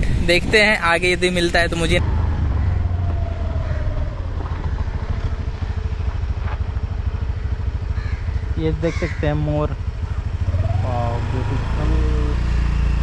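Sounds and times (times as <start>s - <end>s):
motor scooter engine: 1.9s - 13.0s.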